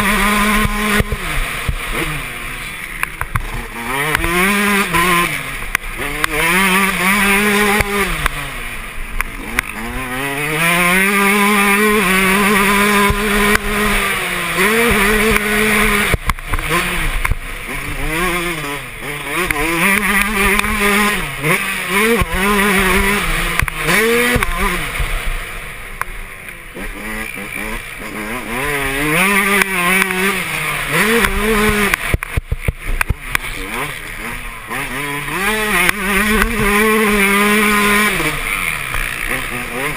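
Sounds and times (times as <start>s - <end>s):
two-stroke motorbike engine revving: 0.0s - 39.9s.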